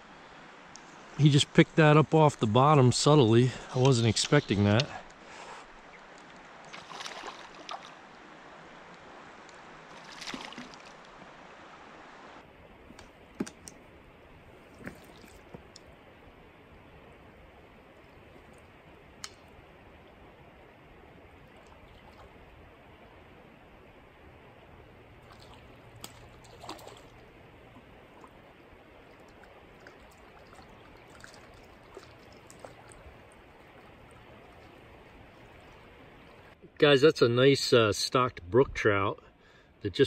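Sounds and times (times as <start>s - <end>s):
creek water flowing: 0.0s - 37.9s.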